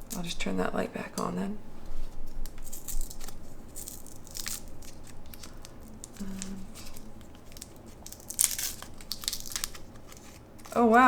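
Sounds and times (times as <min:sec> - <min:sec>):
wrapper crinkling and tearing: 0:01.9 - 0:11.0.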